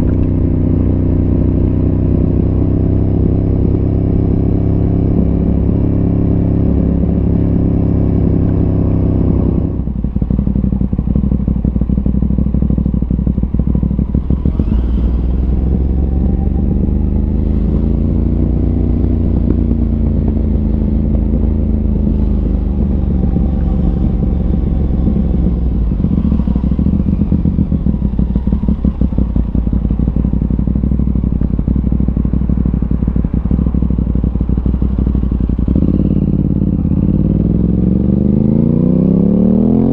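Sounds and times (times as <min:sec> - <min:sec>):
motorcycle engine riding along: 0:00.0 - 0:39.9.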